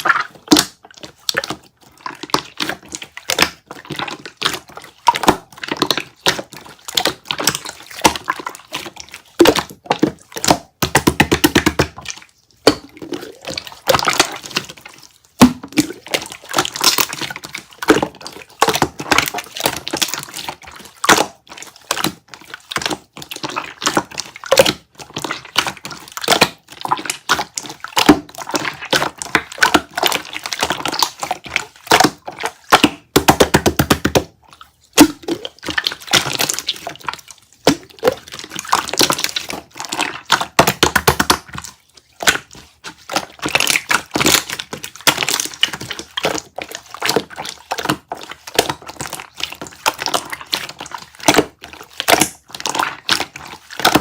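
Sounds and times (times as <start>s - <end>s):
clicks taps and crackles: 0.0s - 54.0s.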